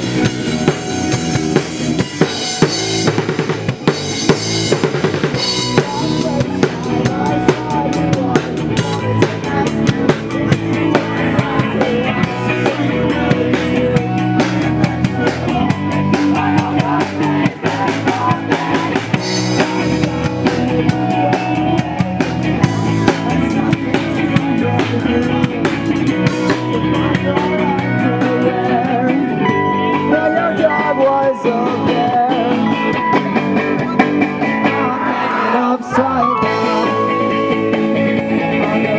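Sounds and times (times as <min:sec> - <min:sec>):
drum kit beat: 0:00.0 - 0:38.9
guitar: 0:00.0 - 0:38.9
live rock band playing: 0:00.0 - 0:38.9.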